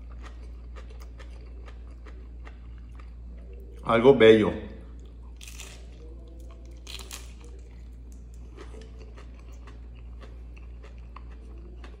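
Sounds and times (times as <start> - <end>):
person chewing crunchy food: 0.0 - 3.8, 5.0 - 12.0
steady low hum: 0.0 - 12.0.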